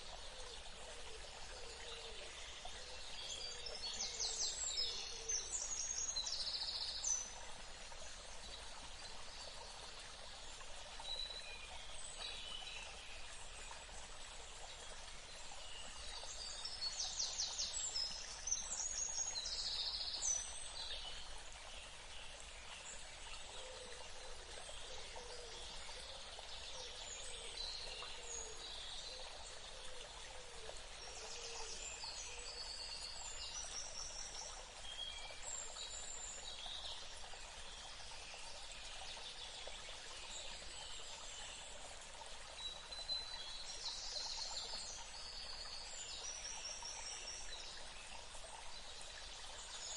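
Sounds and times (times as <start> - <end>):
outdoor ambience hiss: 0.0 - 49.9.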